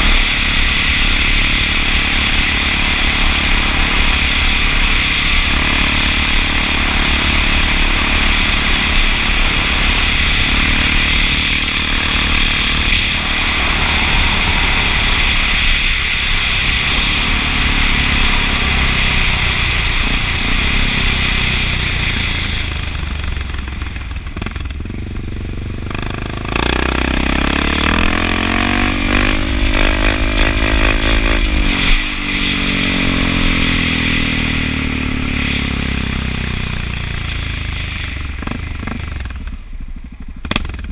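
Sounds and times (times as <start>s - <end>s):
wind rushing over microphone: 0.0s - 39.1s
motorcycle engine running: 0.0s - 40.9s.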